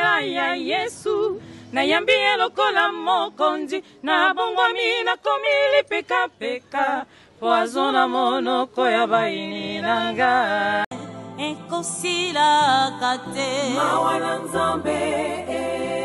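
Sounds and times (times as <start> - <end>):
group singing in harmony: 0.0 - 16.0.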